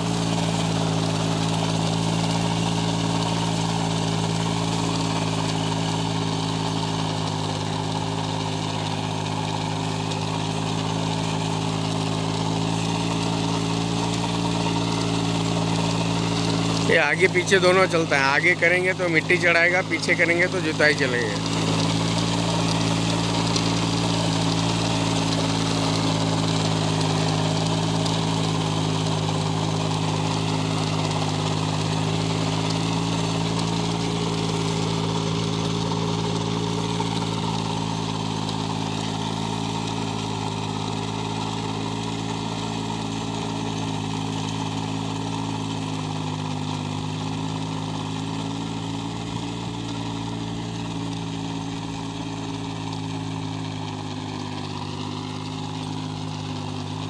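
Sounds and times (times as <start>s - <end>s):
rotavator churning soil: 0.0s - 57.0s
tractor diesel engine running: 0.0s - 57.0s.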